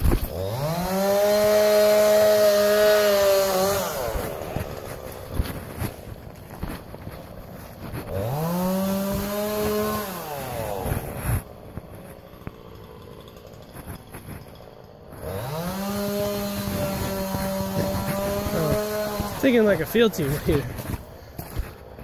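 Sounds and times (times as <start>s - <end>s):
chainsaw revving: 0.0s - 21.6s.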